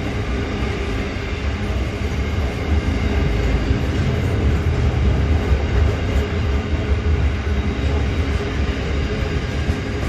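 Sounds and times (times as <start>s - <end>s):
freight train wagons rumbling: 0.0s - 10.0s.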